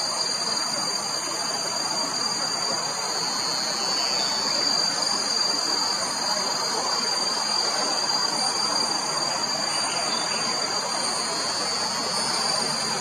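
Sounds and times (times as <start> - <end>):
insects chirping shrilly: 0.0 - 13.0.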